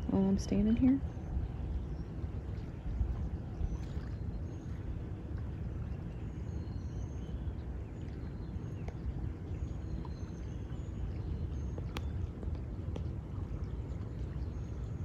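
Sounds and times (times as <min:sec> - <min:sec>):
low rumble of wind and water: 0:00.0 - 0:15.0.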